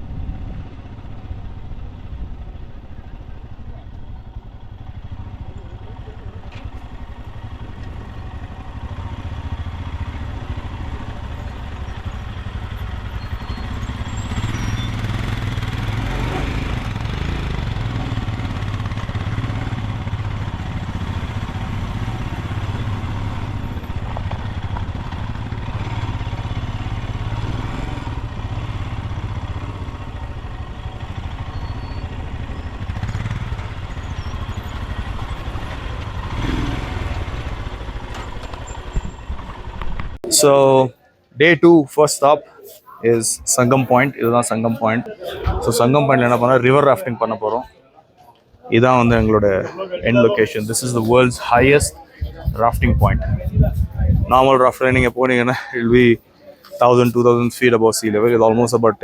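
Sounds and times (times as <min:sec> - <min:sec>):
motorcycle engine running: 0:00.0 - 0:40.8, 0:48.8 - 0:59.0.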